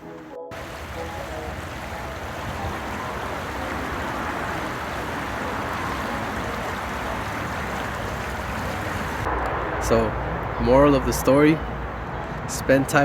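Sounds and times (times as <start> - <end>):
river water rushing: 0.5 - 13.0.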